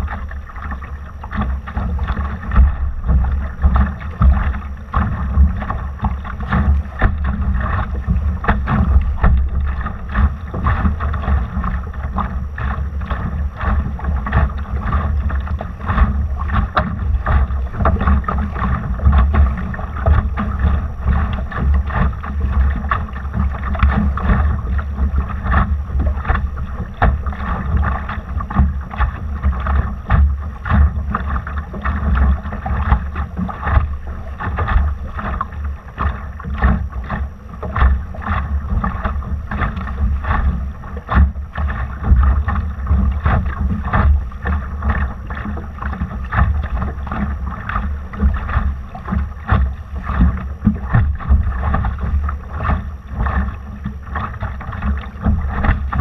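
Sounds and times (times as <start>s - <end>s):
water slapping against hull: 0.0s - 56.0s
wind buffeting microphone: 0.0s - 56.0s.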